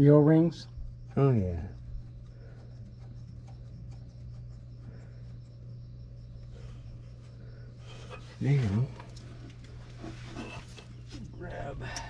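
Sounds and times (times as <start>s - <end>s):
parts rubbing and ticking: 0.0s - 5.8s, 7.0s - 11.4s
steady low hum: 0.0s - 12.0s.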